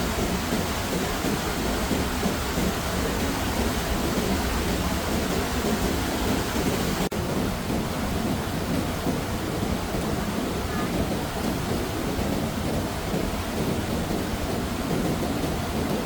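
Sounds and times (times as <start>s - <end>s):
rain and rushing floodwater: 0.0s - 16.0s.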